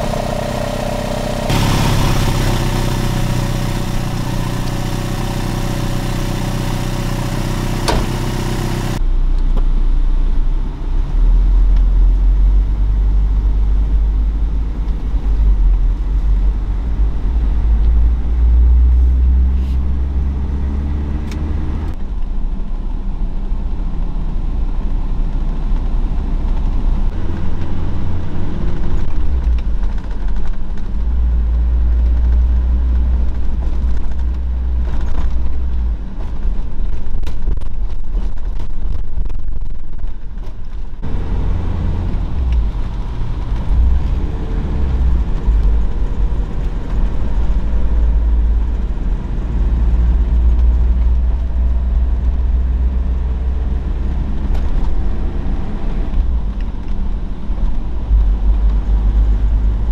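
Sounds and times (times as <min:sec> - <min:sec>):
car engine idling and accelerating: 0:00.0 - 0:59.9.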